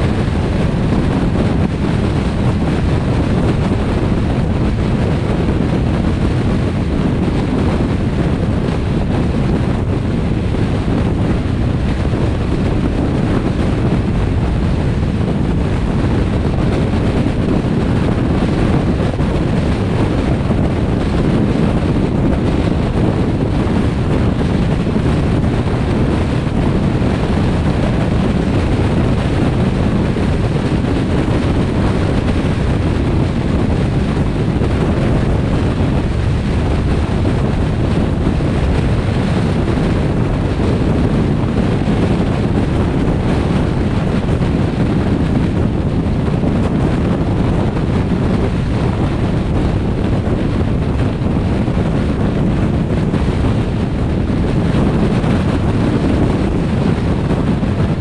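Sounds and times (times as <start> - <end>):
car road noise: 0.0 - 52.1
wind noise on microphone: 0.0 - 58.0.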